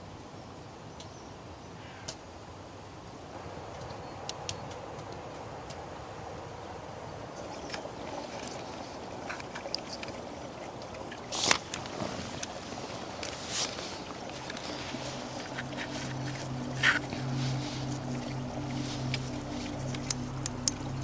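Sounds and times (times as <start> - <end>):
steady rain: 3.3 - 21.0.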